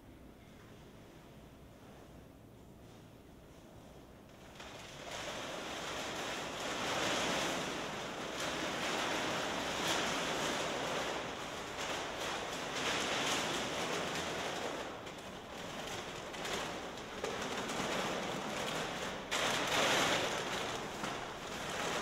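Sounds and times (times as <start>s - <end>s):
paper rustling and crackling: 4.3s - 22.0s.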